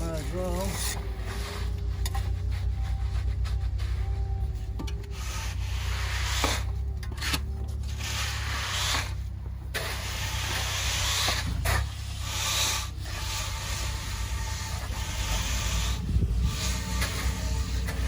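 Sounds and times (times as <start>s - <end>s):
tools scraping wet concrete: 0.0s - 18.0s
truck engine running: 0.0s - 18.0s.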